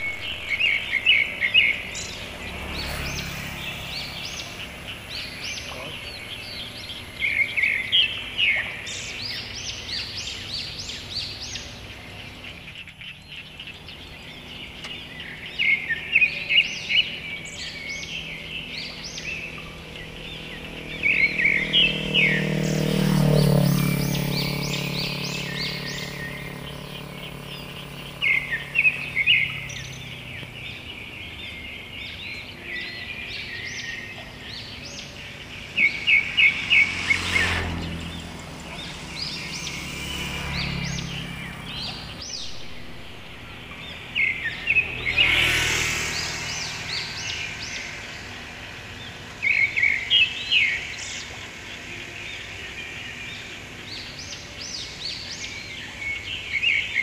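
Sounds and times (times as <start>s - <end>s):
birds chirping: 0.0s - 57.0s
engine passing by: 0.0s - 57.0s.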